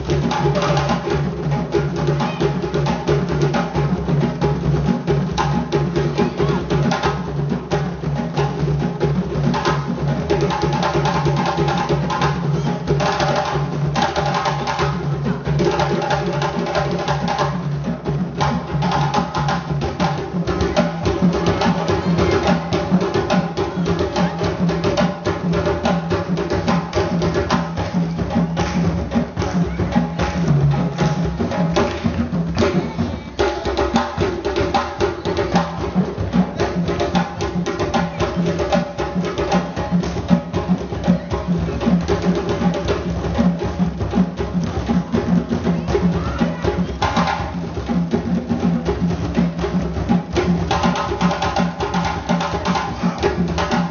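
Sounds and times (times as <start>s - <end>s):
hand drums fast rhythm: 0.0s - 53.9s.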